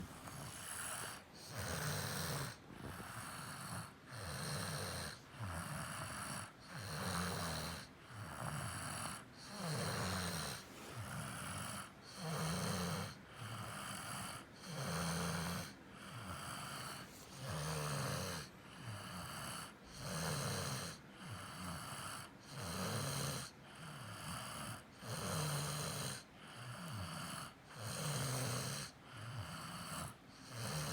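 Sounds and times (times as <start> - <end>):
girl snoring: 0.0 - 30.9.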